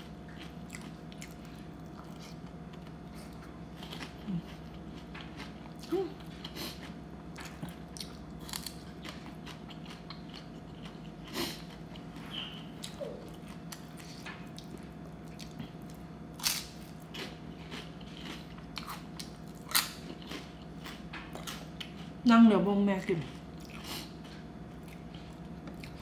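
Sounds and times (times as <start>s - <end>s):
crisp crunching while chewing: 0.0s - 22.2s.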